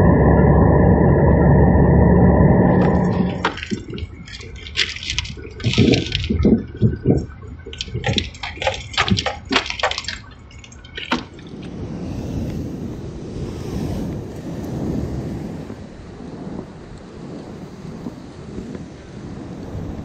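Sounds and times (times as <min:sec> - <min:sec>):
surf breaking on rocks: 0:02.7 - 0:20.0.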